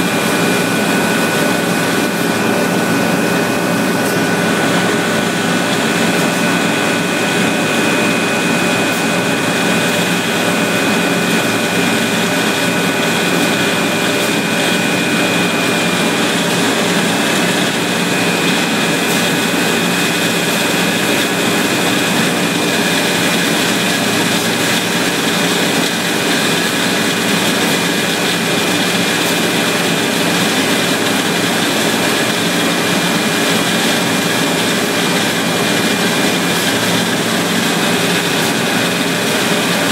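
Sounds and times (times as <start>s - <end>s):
machine drone: 0.0s - 39.9s.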